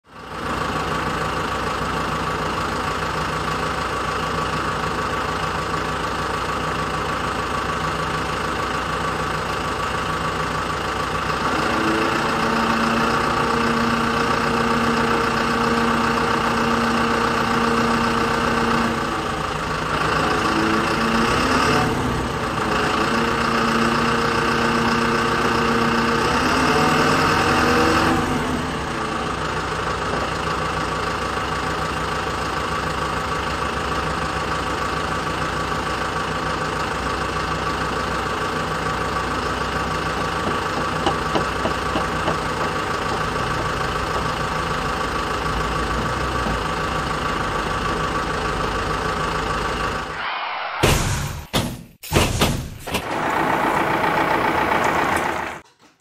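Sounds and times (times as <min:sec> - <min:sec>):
engine idling: 0:00.1 - 0:50.6, 0:52.8 - 0:56.0.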